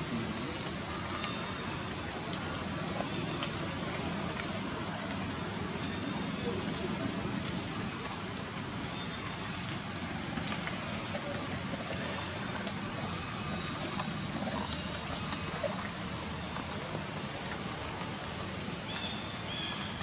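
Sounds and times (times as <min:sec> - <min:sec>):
hissing outdoor background noise: 0:00.0 - 0:20.0.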